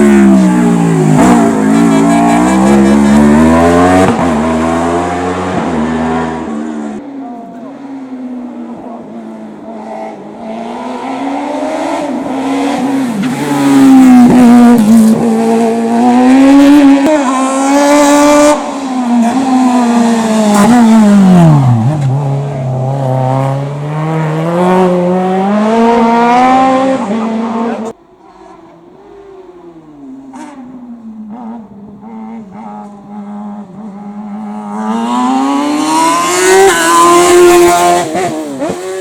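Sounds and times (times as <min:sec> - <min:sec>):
racing car engine revving: 0:00.0 - 0:39.0.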